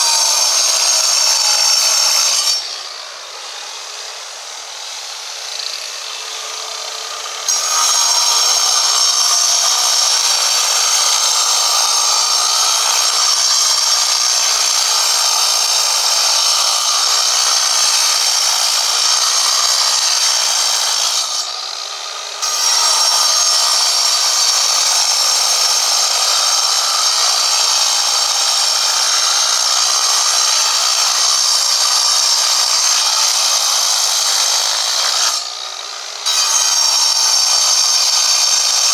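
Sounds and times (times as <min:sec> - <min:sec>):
angle grinder cutting stone: 0:00.0 - 0:38.9.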